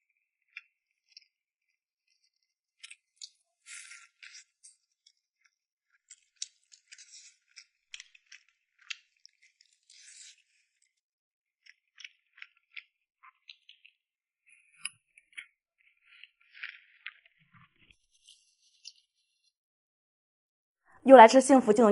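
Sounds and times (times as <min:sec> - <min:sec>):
chewing and clicking of eating: 0:00.1 - 0:11.0, 0:11.6 - 0:19.5.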